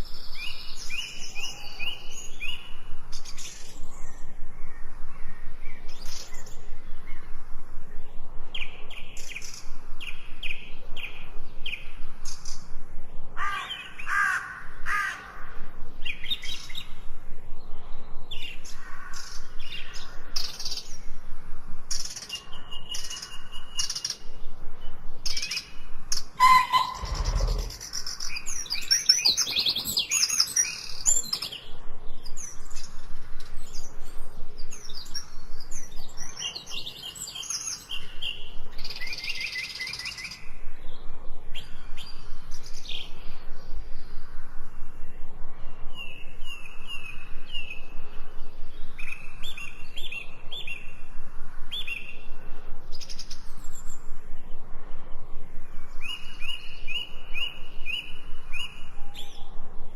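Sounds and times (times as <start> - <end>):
birds chirping and singing: 0.0 - 21.3, 21.9 - 51.1.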